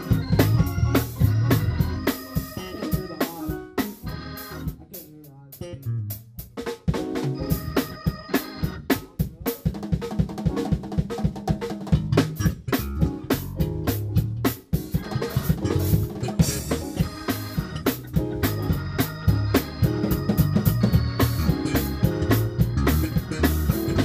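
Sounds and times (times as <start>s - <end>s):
electric bass notes: 0.0s - 9.4s, 11.8s - 24.0s
drum kit: 0.0s - 24.0s
keyboard chords: 0.0s - 24.0s.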